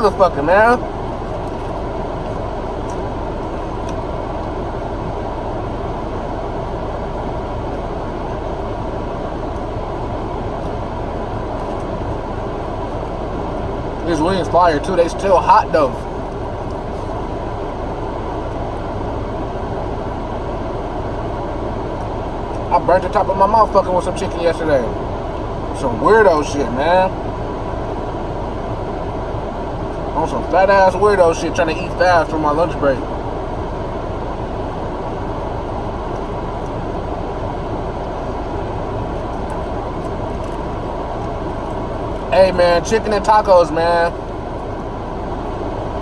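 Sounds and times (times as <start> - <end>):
parked car engine humming: 0.0 - 46.0.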